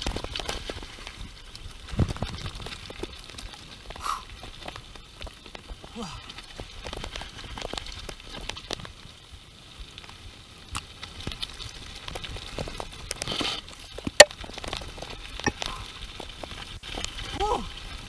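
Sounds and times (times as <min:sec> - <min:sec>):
bike clicks and rattles: 0:00.0 - 0:18.0
tyres crackling on gravel: 0:00.0 - 0:18.0.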